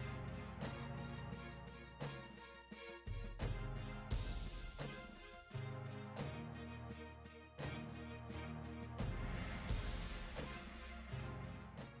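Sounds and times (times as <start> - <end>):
background music with bass notes: 0.0 - 12.0.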